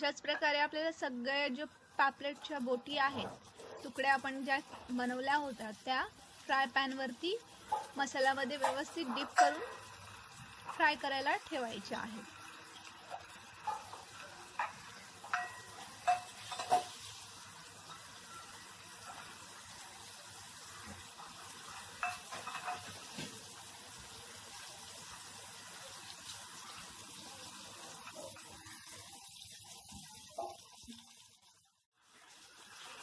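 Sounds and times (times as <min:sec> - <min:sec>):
fish sizzling in hot oil: 0:00.0 - 0:33.0.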